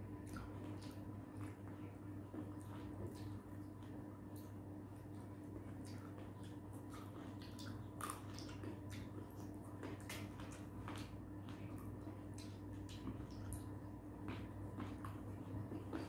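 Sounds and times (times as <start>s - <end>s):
people chewing grapes: 0.1s - 16.0s.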